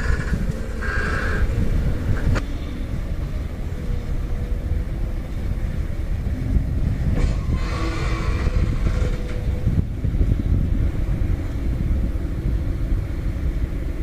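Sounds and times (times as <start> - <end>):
heavy diesel machinery rumbling: 0.0 - 14.0.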